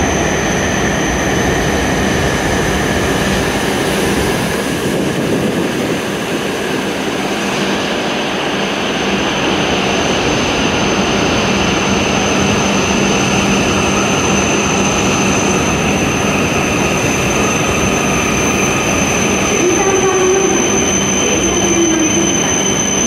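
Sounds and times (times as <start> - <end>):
train rushing past: 0.0 - 23.0
train whine dropping in pitch: 0.0 - 23.0.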